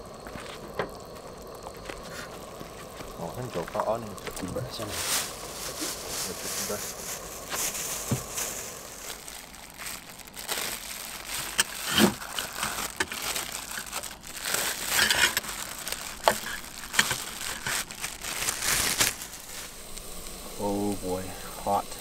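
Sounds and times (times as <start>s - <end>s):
plastic bag crinkling: 0.4s - 20.7s.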